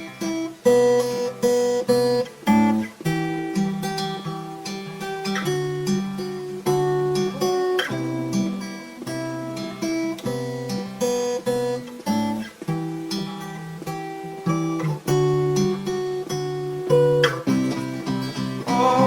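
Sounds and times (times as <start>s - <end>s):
acoustic guitar picking chords: 0.0s - 19.0s.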